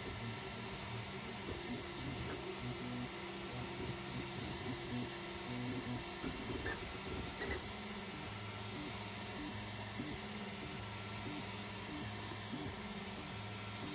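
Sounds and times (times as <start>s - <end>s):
cooling fans hissing: 0.0s - 13.9s.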